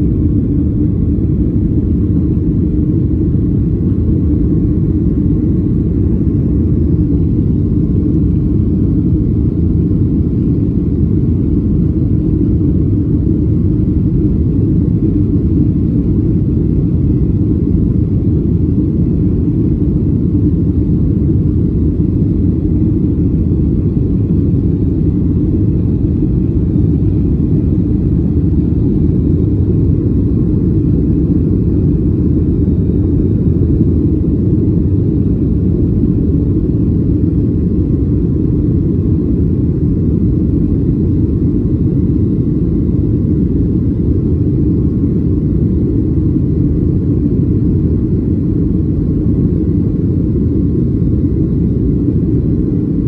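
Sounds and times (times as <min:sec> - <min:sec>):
jet engines at climb power: 0:00.0 - 0:53.0.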